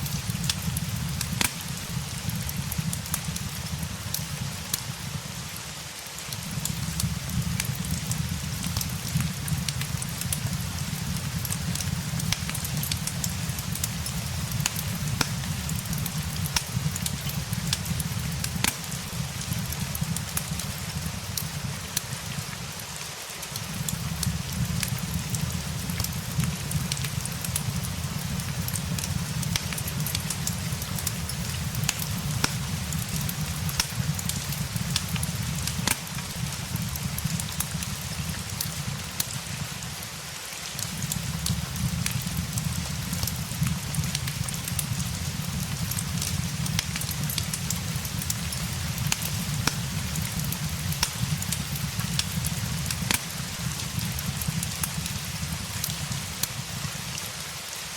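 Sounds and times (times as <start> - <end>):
fire crackling and popping: 0.0 - 57.8
steady rain hiss: 0.0 - 57.9.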